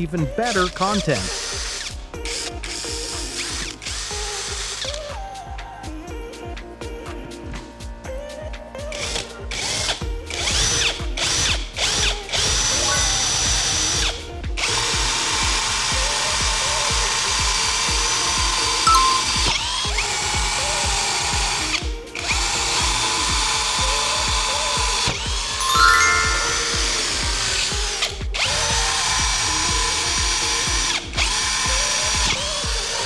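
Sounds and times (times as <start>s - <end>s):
background music with steady beat: 0.0s - 33.0s.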